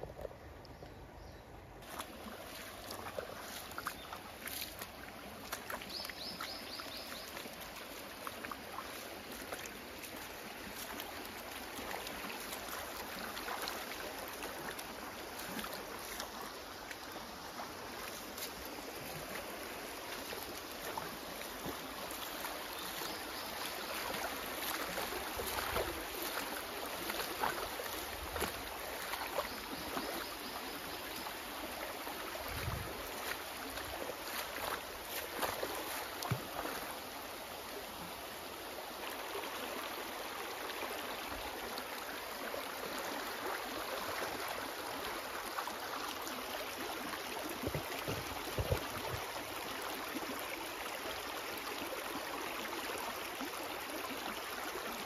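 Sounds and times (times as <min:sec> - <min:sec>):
creek water trickling over pebbles: 0:00.0 - 0:55.0.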